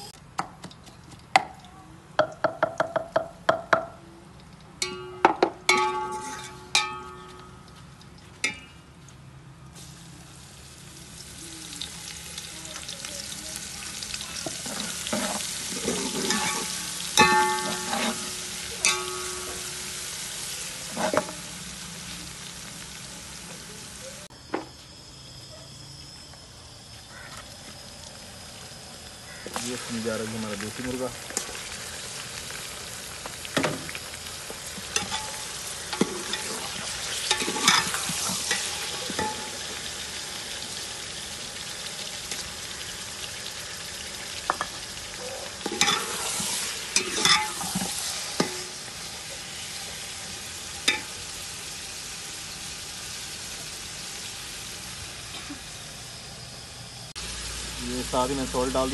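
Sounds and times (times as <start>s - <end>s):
food sizzling in hot oil: 9.7s - 58.9s.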